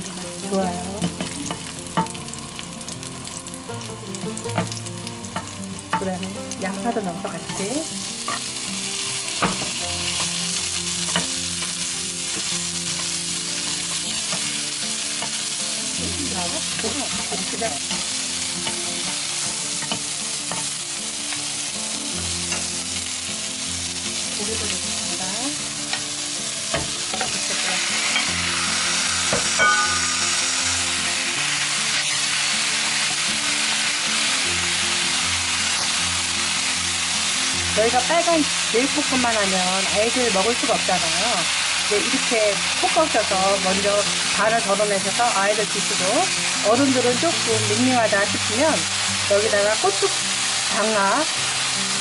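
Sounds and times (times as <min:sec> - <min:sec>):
onion sizzling in hot oil: 0:00.0 - 0:52.0.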